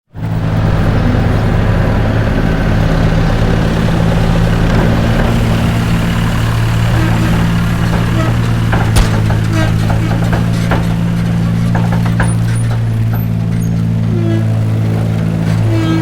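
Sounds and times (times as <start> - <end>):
heavy vehicle engine idling: 0.1 - 16.0.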